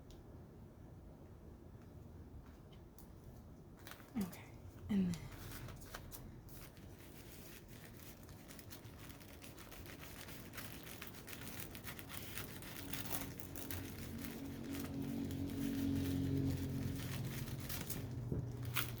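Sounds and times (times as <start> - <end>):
low steady hum: 0.0 - 19.0
packaging crinkling and rustling: 3.1 - 19.0.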